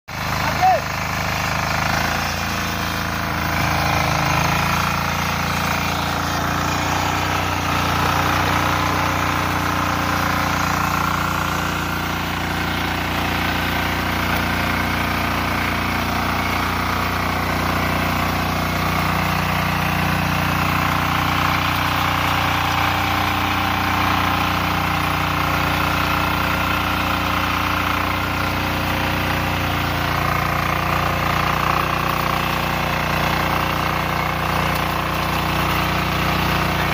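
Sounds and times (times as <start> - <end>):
diesel engine running: 0.1 - 36.9
tines tilling soil: 0.1 - 36.9.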